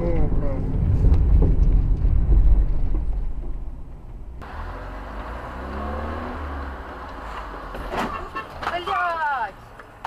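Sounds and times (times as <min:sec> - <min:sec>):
road and engine noise: 0:00.0 - 0:10.0
traffic noise: 0:00.0 - 0:10.0.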